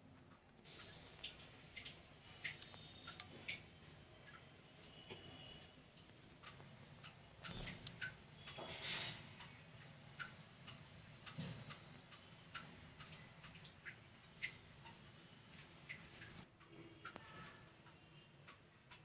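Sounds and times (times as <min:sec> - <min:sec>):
small ticks and clicks: 0:00.0 - 0:19.0
high-pitched hiss: 0:00.6 - 0:18.6.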